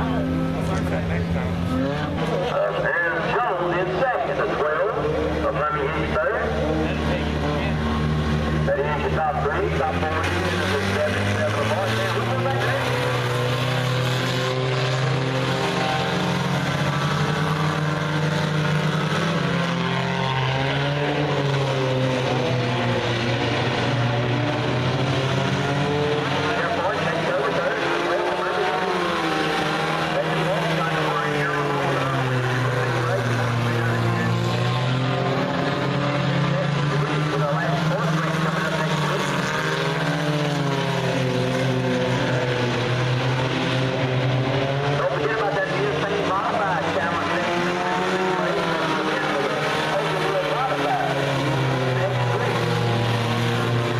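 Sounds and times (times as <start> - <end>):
race car engines droning: 0.0 - 53.9.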